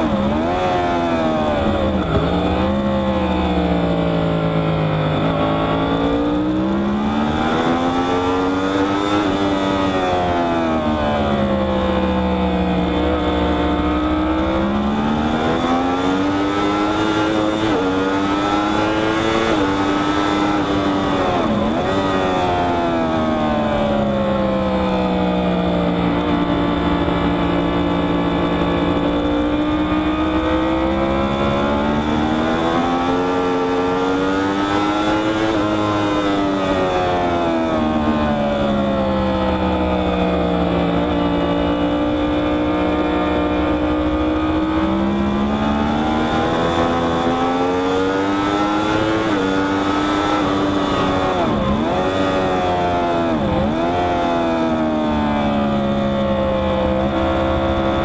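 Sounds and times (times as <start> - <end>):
motorcycle engine at high speed: 0.0 - 58.0.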